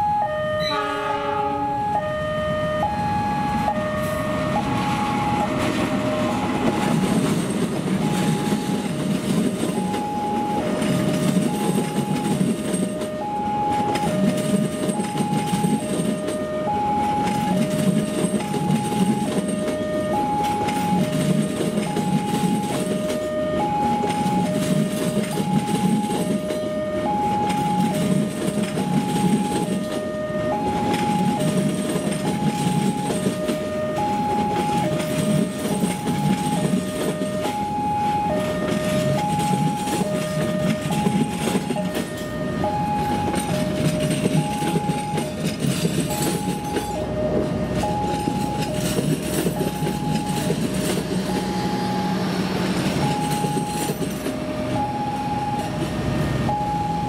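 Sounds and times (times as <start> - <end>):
two-note level crossing alarm: 0.0 - 7.3, 8.0 - 9.1, 9.7 - 57.0
passing train rumble: 0.0 - 57.0.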